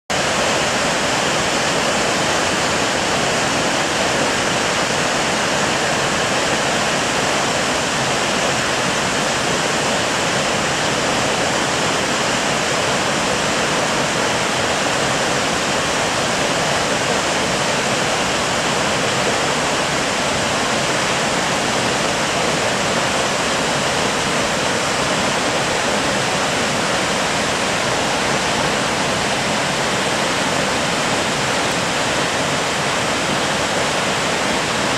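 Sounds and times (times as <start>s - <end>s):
waterfall pouring: 0.1s - 34.9s.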